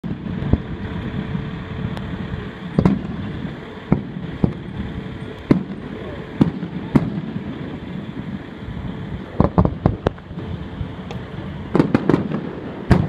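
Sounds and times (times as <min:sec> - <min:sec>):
aerial fireworks bursting: 0:00.0 - 0:13.0
steady low background noise: 0:00.0 - 0:13.0.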